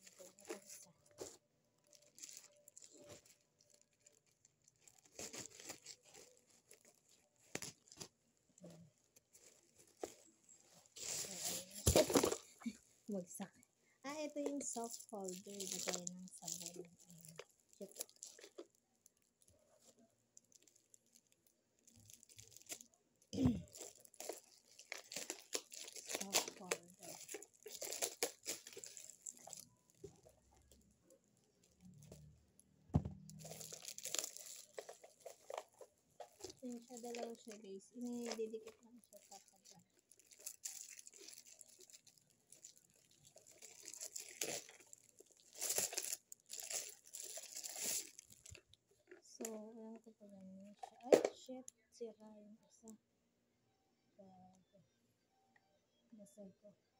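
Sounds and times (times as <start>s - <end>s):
plastic wrap crinkling: 0.0s - 49.6s.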